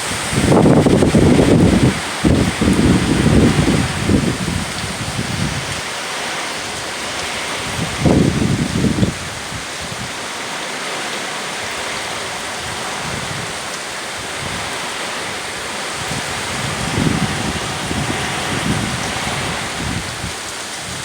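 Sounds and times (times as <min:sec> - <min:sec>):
gusts buffeting microphone: 0:00.0 - 0:21.0
rain and wind hiss: 0:00.0 - 0:21.0.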